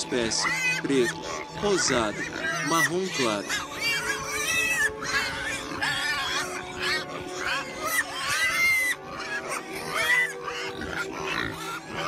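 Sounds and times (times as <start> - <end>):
background music: 0.0 - 12.0
pigs squealing: 0.0 - 12.0.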